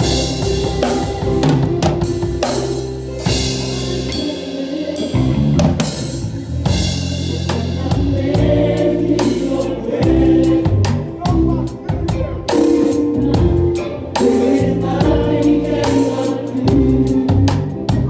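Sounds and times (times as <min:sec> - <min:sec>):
live band music: 0:00.0 - 0:18.0
person singing: 0:00.0 - 0:18.0.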